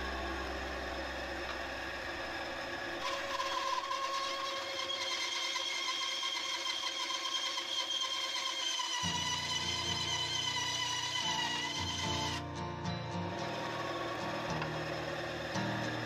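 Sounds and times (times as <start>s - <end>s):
scroll saw cutting wood: 0.0s - 12.5s, 13.3s - 16.0s.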